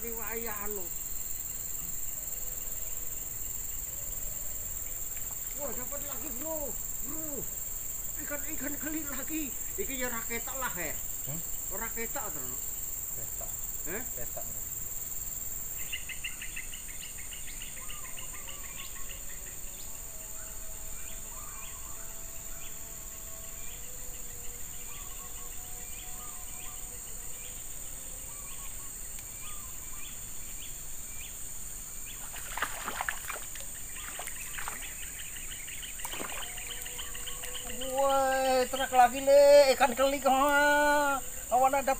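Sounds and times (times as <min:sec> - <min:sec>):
birds chirping: 0:00.0 - 0:31.4, 0:32.0 - 0:41.9
crickets and insects droning: 0:00.0 - 0:41.9.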